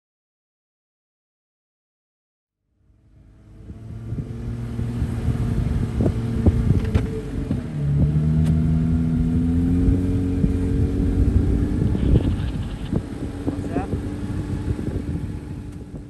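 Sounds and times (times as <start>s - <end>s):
vehicle engine running: 2.7s - 16.0s.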